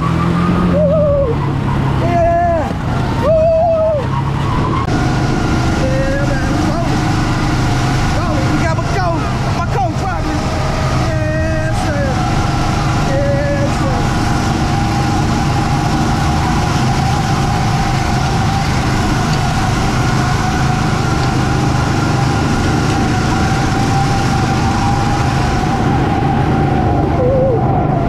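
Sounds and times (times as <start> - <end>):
constant whining tones: 0.0 - 28.0
machine drone: 0.0 - 28.0.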